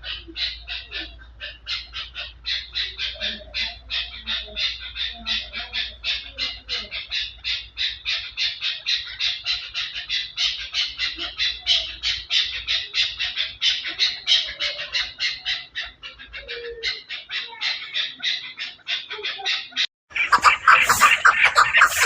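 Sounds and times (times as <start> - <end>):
birds squawking: 0.0 - 22.0.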